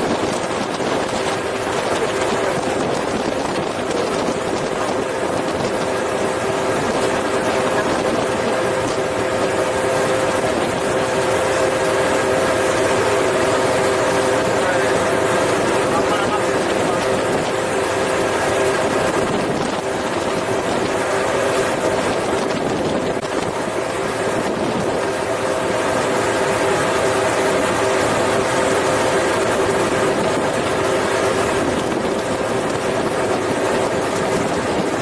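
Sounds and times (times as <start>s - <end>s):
engine drone with hum: 0.0s - 35.0s.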